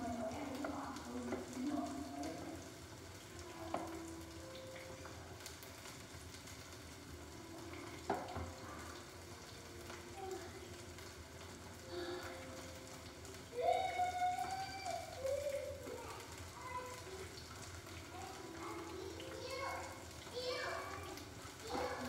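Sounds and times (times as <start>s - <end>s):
pork sizzling in oil: 0.0s - 22.0s.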